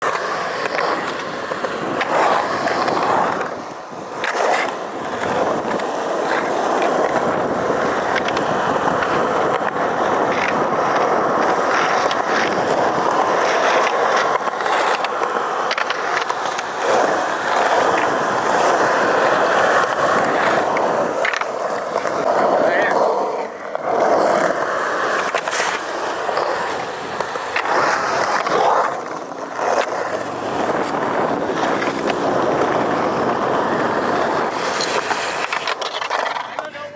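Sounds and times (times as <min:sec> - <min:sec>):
skateboard clicks and knocks: 0:00.0 - 0:36.9
skateboard rolling on concrete: 0:00.0 - 0:36.9.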